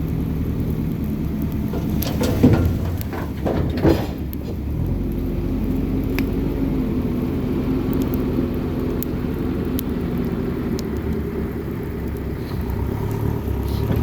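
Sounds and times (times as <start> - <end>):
bonfire flames roaring: 0.0 - 14.0
fire crackles and pops: 0.0 - 14.0.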